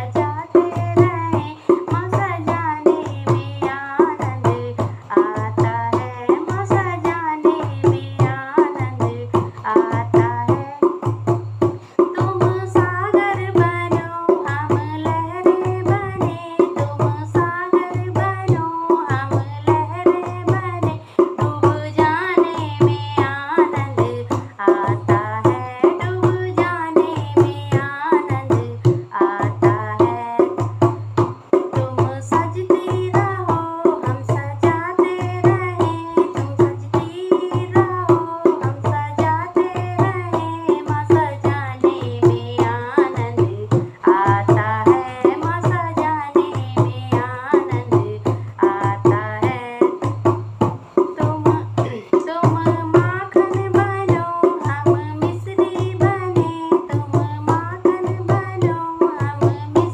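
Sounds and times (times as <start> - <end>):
hand drum beat: 0.0 - 59.9
woman singing: 0.0 - 59.9.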